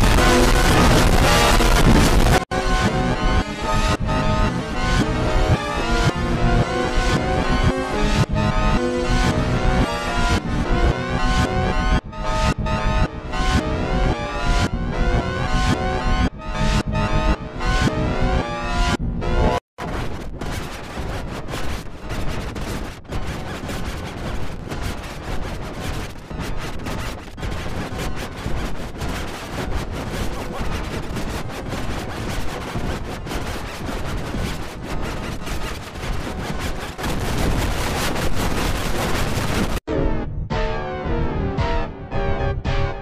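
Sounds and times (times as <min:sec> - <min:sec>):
distorted digital crackling: 0:00.0 - 0:39.9.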